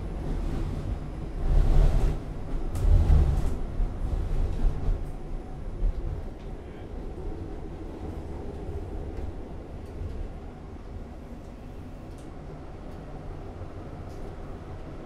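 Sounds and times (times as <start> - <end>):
tram passing rumble: 0.0 - 15.0.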